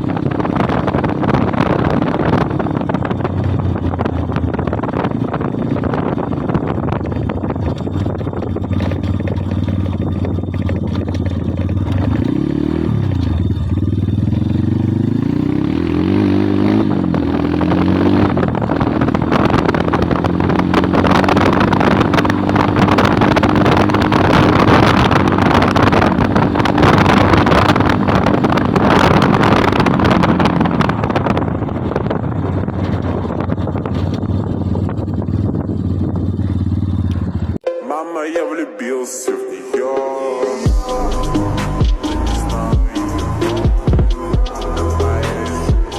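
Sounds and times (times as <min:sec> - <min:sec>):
motorbike engine revving: 0:00.0 - 0:37.6, 0:40.6 - 0:45.9
wind noise on microphone: 0:00.0 - 0:37.6, 0:40.7 - 0:45.9.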